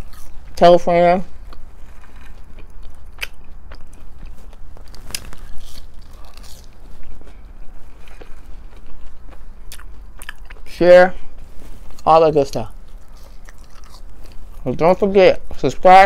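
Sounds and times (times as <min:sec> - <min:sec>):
crunchy chewing of fried food: 0:00.0 - 0:15.6
low steady hum: 0:00.0 - 0:16.0.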